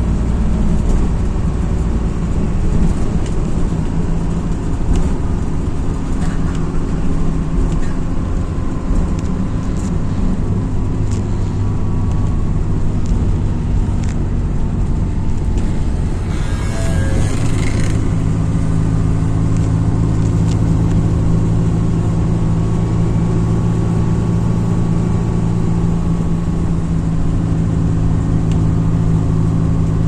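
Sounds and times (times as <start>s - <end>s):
bus engine drone: 0.0s - 30.0s
road noise: 0.0s - 30.0s.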